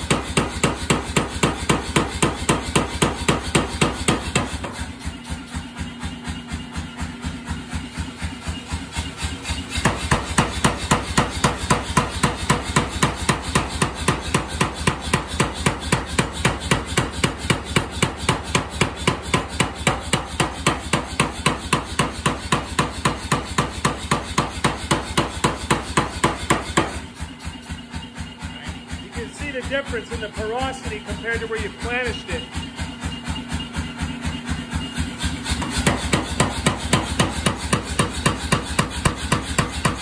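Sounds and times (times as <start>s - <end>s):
power hammer striking hot iron: 0.0s - 40.0s.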